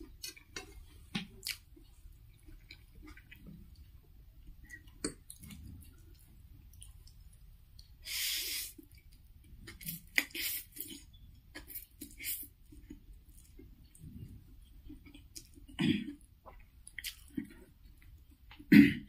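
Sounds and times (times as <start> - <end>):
quiet chewing: 0.0 - 18.7.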